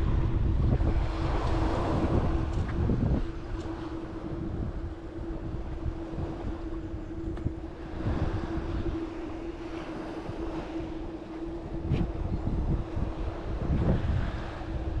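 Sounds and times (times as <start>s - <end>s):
steady mechanical hum: 0.0s - 15.0s
wind buffeting microphone: 0.0s - 15.0s.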